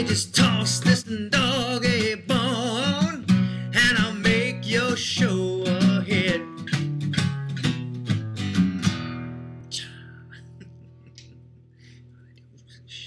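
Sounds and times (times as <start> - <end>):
strummed acoustic guitar: 0.0 - 11.6.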